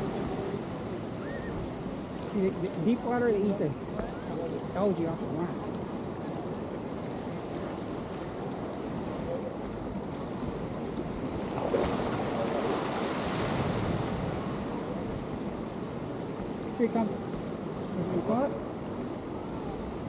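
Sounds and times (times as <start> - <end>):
waves washing on rocky shore: 0.0 - 20.0.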